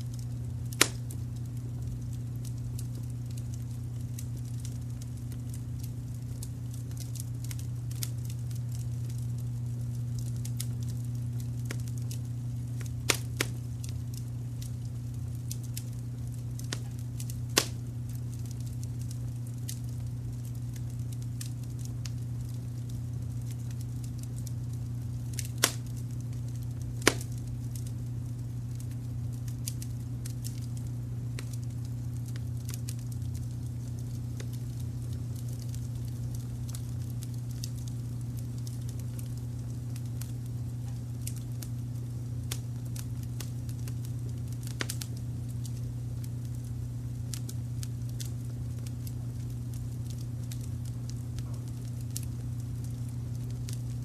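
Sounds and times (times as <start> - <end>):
wood fire crackling: 0.0 - 54.0
sharp fire pops: 0.1 - 54.0.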